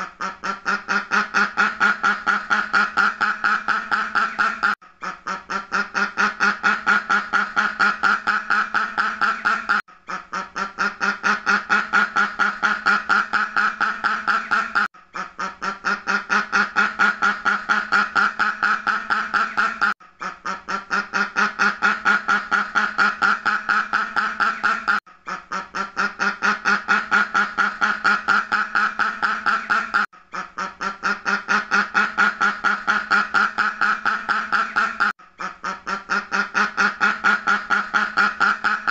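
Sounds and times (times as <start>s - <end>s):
duck quacking: 0.0s - 38.9s.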